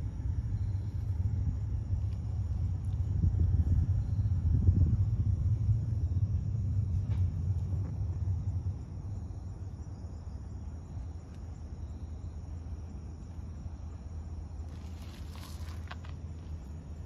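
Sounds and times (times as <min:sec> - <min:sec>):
crickets chirping: 0:00.0 - 0:17.0
low rumble: 0:00.0 - 0:17.0.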